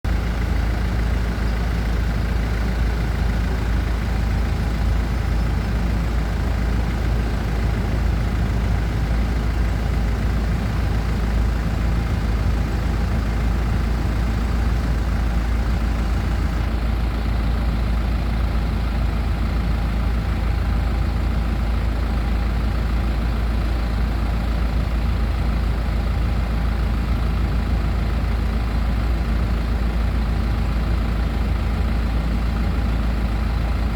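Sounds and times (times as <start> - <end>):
bus engine running: 0.0 - 33.9.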